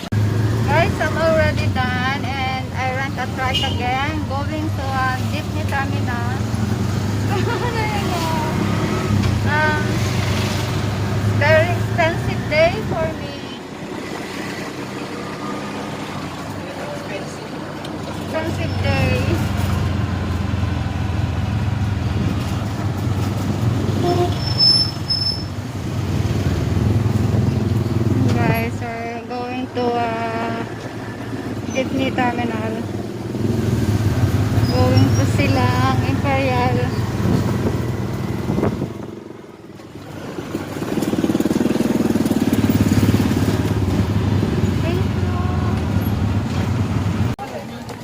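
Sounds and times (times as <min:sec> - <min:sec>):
motorcycle engine running: 0:00.0 - 0:48.0
road noise: 0:00.0 - 0:48.0.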